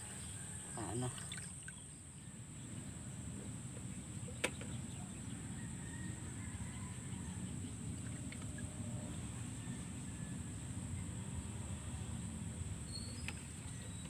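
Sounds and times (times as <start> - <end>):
distant bird calls: 0.0 - 14.0.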